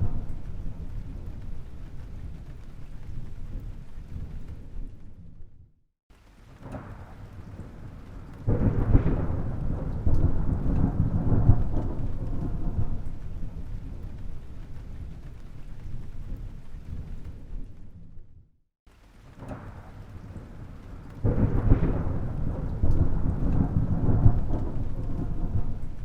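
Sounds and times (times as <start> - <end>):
thunder peal: 0.0 - 5.3, 6.6 - 18.2, 19.2 - 26.0
thunder rumbling: 0.0 - 5.6, 6.4 - 18.5, 19.1 - 26.0.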